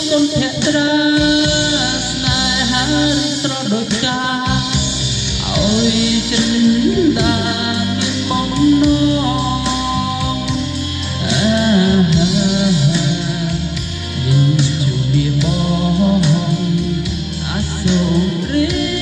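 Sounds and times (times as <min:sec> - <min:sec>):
song with drum beat and bass: 0:00.0 - 0:19.0.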